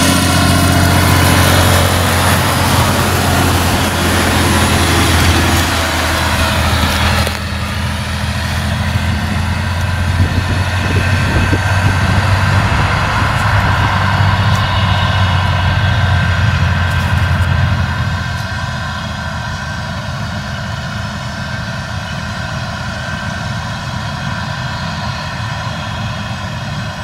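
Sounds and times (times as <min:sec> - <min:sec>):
truck diesel engine droning: 0:00.0 - 0:27.0.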